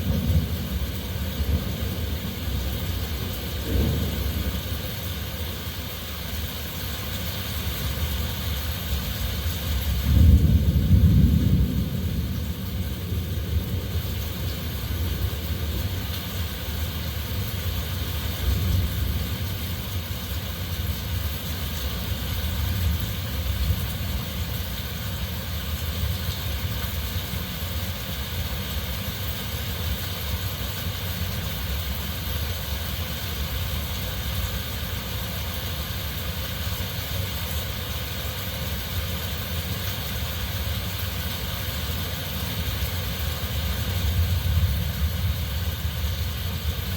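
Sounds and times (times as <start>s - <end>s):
heavy rain: 0.0s - 46.9s
wind: 0.0s - 46.9s.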